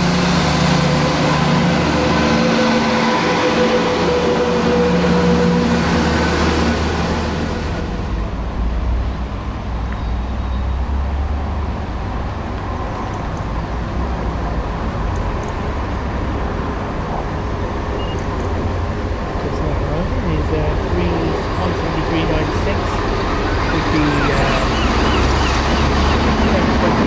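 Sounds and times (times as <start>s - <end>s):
diesel train approaching rumble: 0.0s - 27.0s
diesel train passing: 0.0s - 27.0s
wheel and rail noise: 0.0s - 27.0s.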